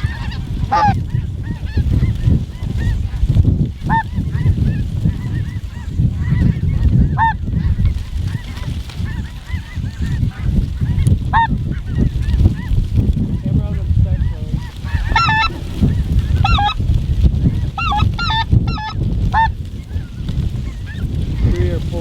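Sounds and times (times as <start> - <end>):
geese honking: 0.0 - 22.0
steady low rumble: 0.0 - 22.0.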